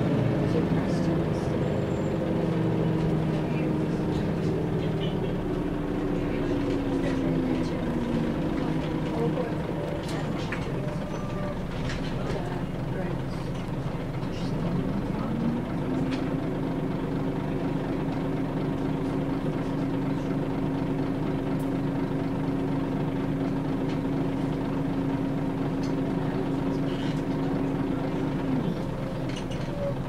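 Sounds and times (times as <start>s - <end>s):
bus engine drone: 0.0s - 30.0s.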